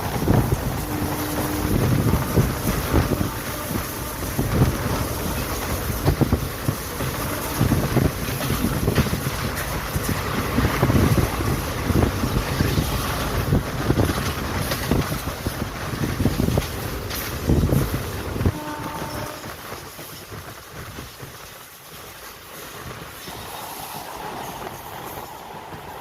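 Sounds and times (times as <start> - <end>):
train wheels rushing on rails: 0.0 - 26.0
wind buffeting microphone: 0.0 - 26.0.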